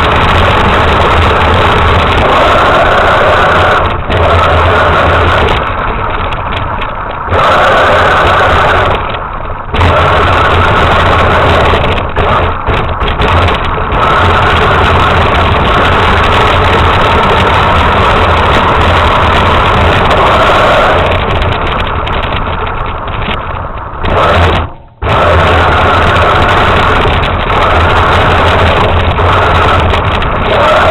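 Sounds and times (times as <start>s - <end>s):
rc truck motor running: 0.0s - 30.9s.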